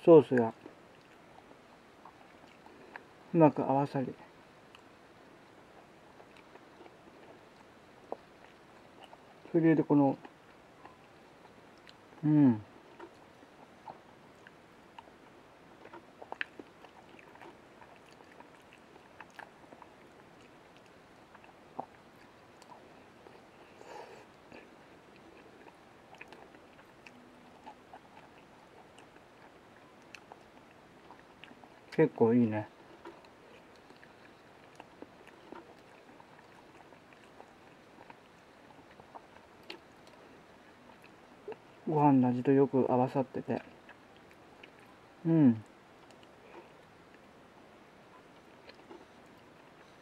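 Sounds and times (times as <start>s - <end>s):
person chewing with mouth clicks: 0.2s - 3.3s, 4.7s - 32.1s, 32.7s - 41.9s, 43.2s - 47.4s, 48.0s - 50.0s.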